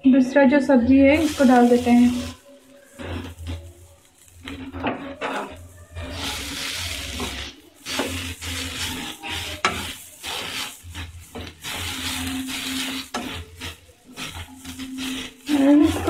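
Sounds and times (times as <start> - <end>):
vegetables sizzling: 0.8 - 16.0
spatula scraping vegetables in pan: 1.0 - 16.0.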